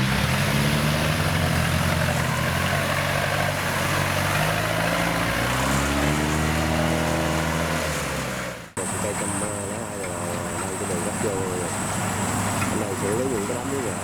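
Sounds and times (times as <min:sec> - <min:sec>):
farm machine engine running: 0:00.0 - 0:07.6, 0:08.4 - 0:14.0.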